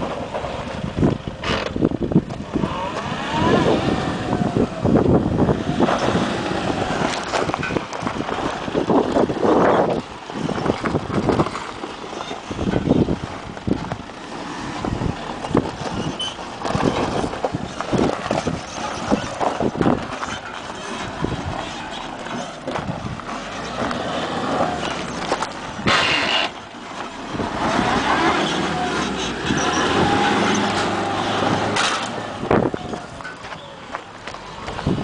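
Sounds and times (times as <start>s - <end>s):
diesel engine at low speed: 0.0s - 35.0s
tyres crunching on rocks: 5.7s - 35.0s.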